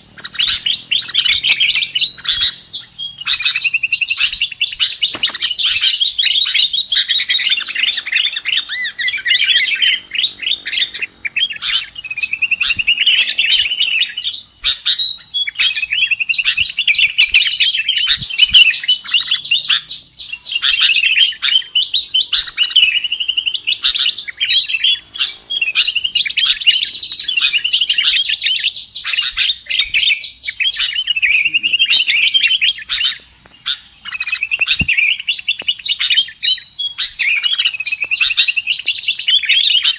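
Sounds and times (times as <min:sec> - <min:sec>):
bird rapid chirping and trills: 0:00.0 - 0:39.9.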